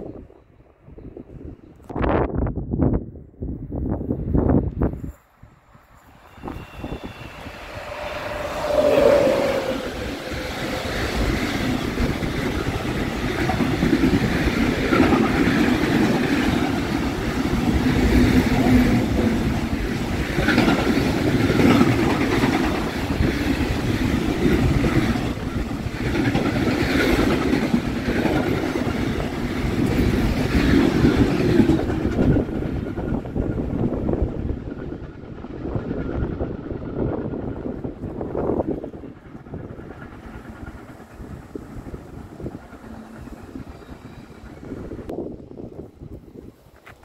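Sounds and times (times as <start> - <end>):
electric locomotive passing: 0.0 - 46.7
train wagons rumbling on rails: 3.6 - 47.0.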